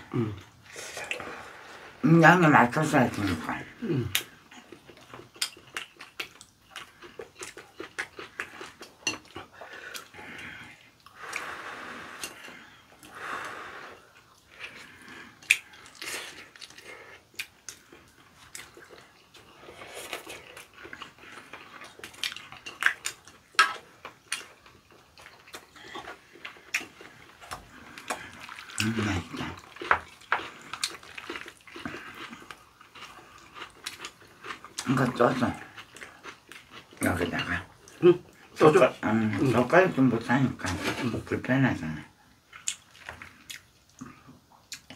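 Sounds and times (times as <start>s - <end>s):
noodles slurped and chewed: 3.1s - 39.8s.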